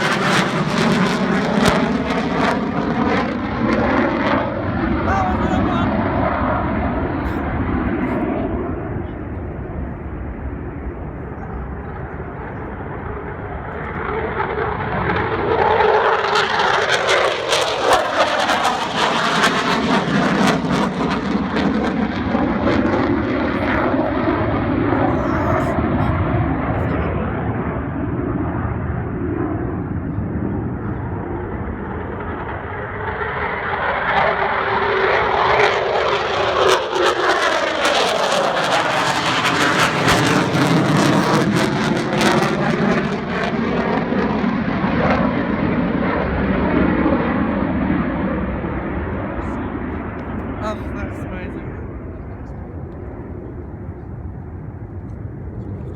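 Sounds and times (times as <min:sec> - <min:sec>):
fighter jet passing: 0:00.0 - 0:55.9.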